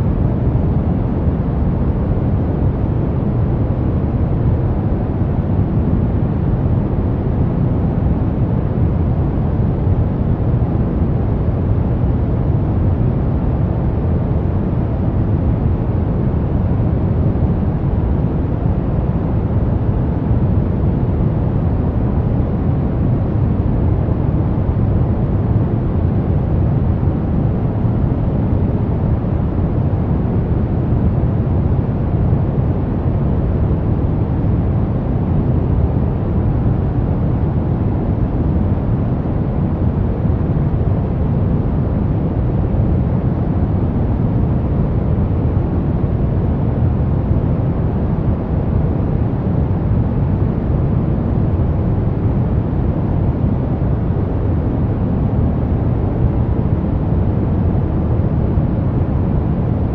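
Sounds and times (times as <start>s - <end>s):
brown noise: 0.0s - 59.9s.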